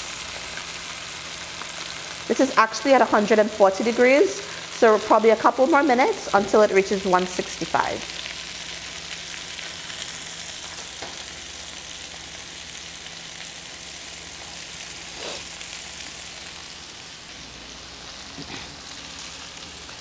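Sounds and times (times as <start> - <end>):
chicken sizzling in a skillet: 0.0 - 20.0.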